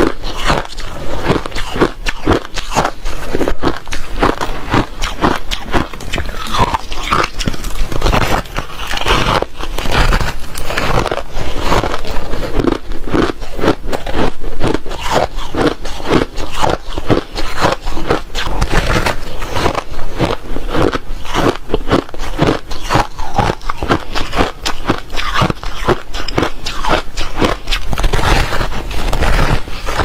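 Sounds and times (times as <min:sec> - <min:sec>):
ice being chewed: 0:00.0 - 0:30.0.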